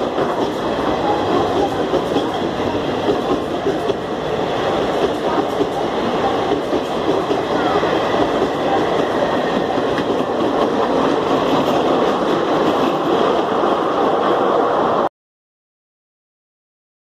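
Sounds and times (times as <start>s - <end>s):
train passing at speed: 0.0s - 15.1s.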